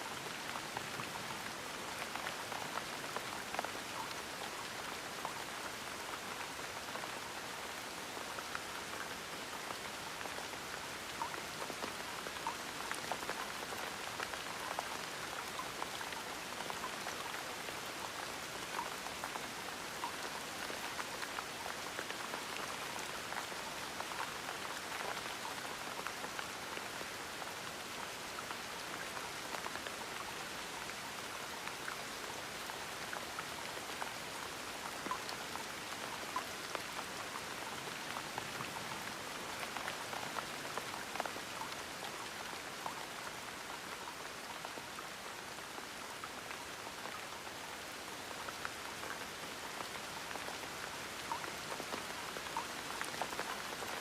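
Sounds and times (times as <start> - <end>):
gentle rain pattering: 0.0 - 54.0.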